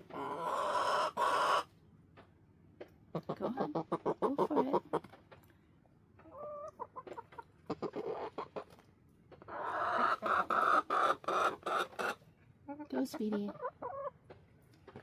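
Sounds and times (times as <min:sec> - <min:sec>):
hens clucking: 0:00.0 - 0:01.8, 0:02.8 - 0:05.4, 0:06.1 - 0:15.0.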